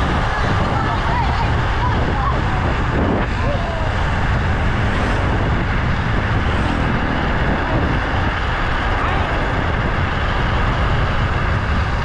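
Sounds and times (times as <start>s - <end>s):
minibike engine at speed: 0.0s - 12.0s.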